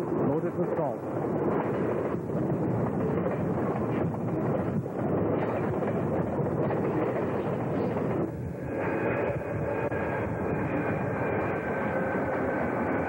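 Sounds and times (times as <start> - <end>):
diesel locomotives rumbling past: 0.0 - 13.0
wind buffeting microphone: 0.0 - 13.0.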